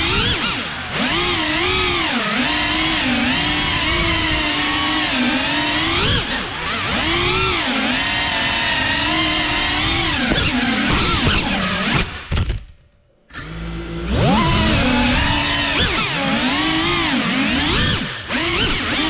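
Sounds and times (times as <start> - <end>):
drone motors whining: 0.0 - 12.6, 13.3 - 19.0.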